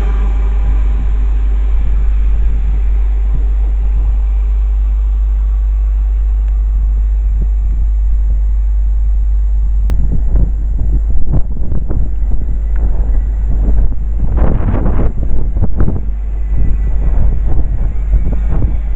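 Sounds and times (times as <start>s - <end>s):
train rumbling past: 0.0s - 18.9s
wind buffeting microphone: 0.0s - 18.9s.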